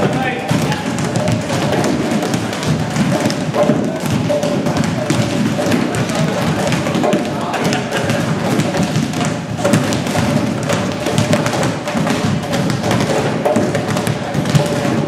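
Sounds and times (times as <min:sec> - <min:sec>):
balls bouncing on wooden floor: 0:00.0 - 0:15.0
hurleys knocking balls: 0:00.0 - 0:15.0.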